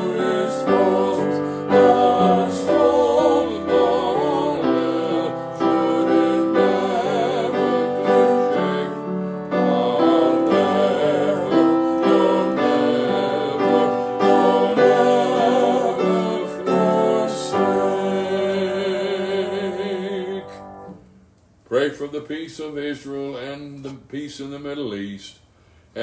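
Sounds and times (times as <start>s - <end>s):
person singing: 0.0s - 20.8s
gentle gospel piano chords: 0.0s - 21.0s.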